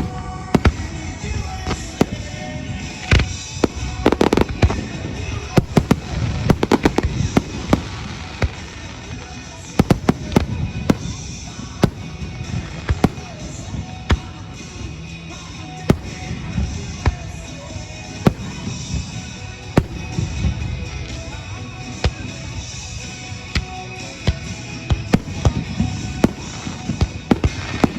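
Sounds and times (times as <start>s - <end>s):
fireworks bangs and cracks: 0.0s - 27.9s.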